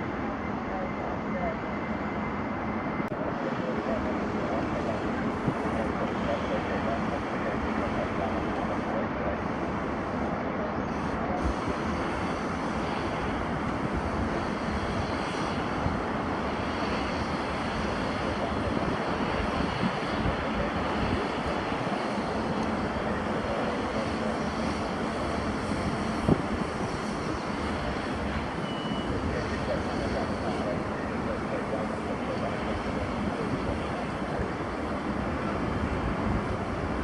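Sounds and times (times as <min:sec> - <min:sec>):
distant jet engines roaring: 0:00.0 - 0:37.0.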